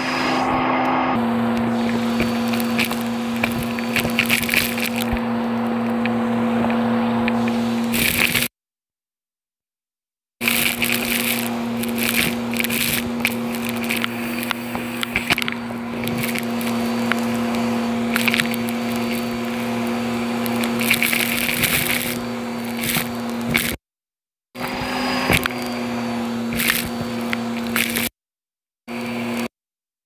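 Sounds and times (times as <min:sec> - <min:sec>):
vacuum cleaner motor hum: 0:00.0 - 0:08.5, 0:10.4 - 0:23.8, 0:24.6 - 0:28.1, 0:28.9 - 0:29.5
grit rattling through hose: 0:01.2 - 0:08.5, 0:10.4 - 0:23.8, 0:24.6 - 0:28.1.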